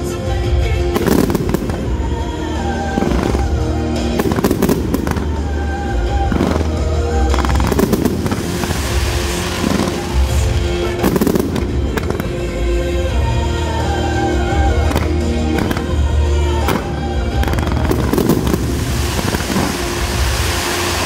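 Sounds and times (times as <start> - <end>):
fireworks bangs and booms: 0.0 - 21.0
fireworks hiss and crackle: 0.0 - 21.0
music: 0.0 - 21.0.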